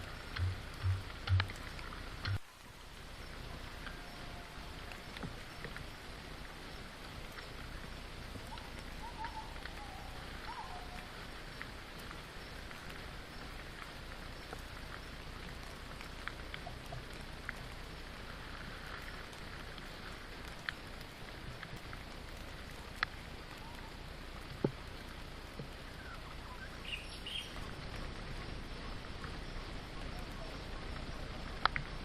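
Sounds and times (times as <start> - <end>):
single raindrops landing close: 0.0 - 28.4
rain hissing: 0.0 - 32.0.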